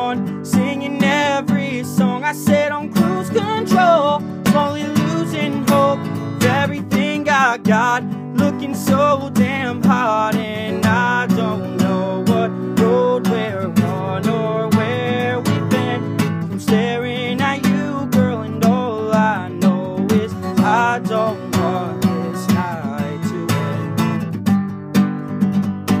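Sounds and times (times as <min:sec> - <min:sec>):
man singing: 0:00.0 - 0:24.2
acoustic guitar strumming: 0:00.0 - 0:26.0.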